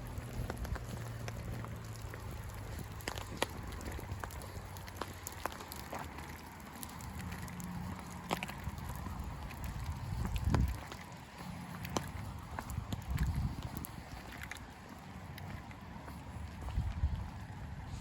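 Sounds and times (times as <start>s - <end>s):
rain low rumble: 0.0s - 18.0s
raindrops ticking on surfaces: 0.0s - 18.0s.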